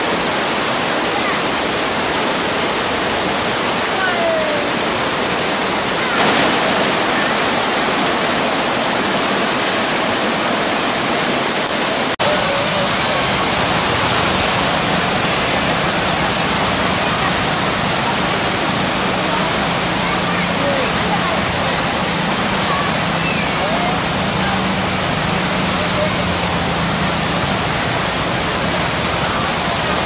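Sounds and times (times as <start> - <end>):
water rushing over boulders: 0.0 - 30.0.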